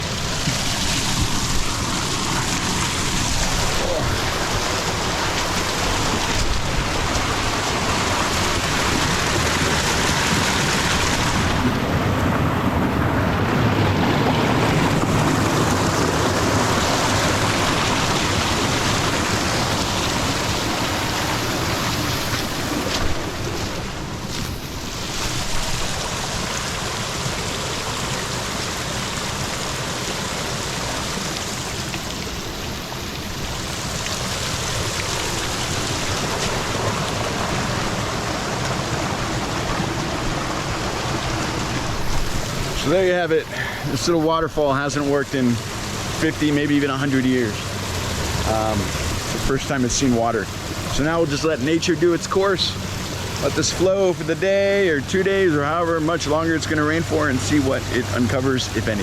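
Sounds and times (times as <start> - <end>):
water splashing down waterfall: 0.0 - 59.0.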